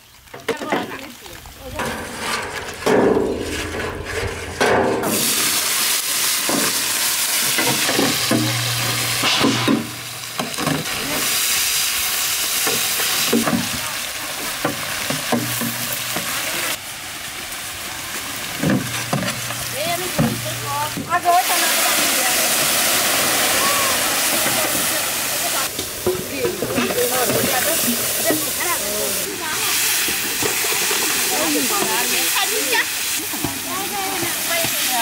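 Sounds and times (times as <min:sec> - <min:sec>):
onions sizzling in hot oil: 0:05.0 - 0:35.0.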